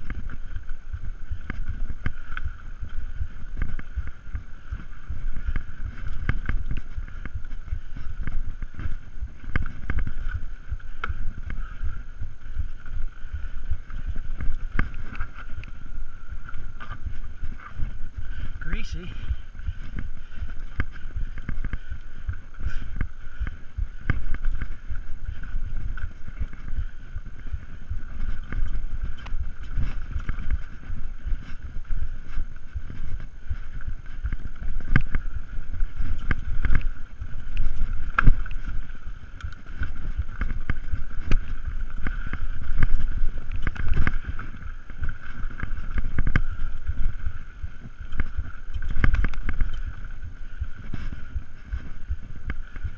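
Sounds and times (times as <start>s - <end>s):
wind on microphone: 0.0s - 52.9s.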